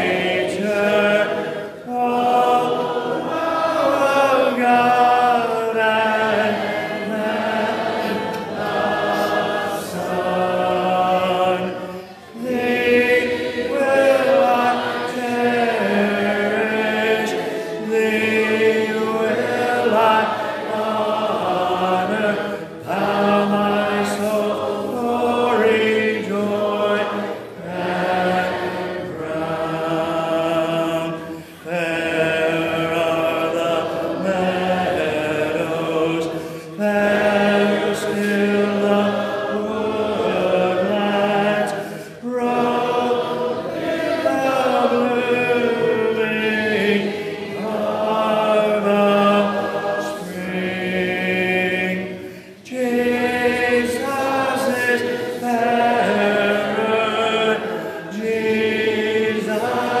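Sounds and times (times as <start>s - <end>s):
congregation singing a hymn: 0.0s - 60.0s.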